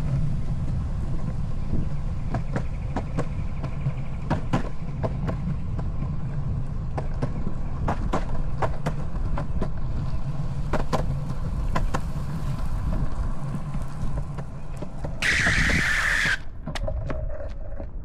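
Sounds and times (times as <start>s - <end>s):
wheels clicking over joints: 0.0s - 18.0s
wheels rolling on concrete: 0.0s - 18.0s.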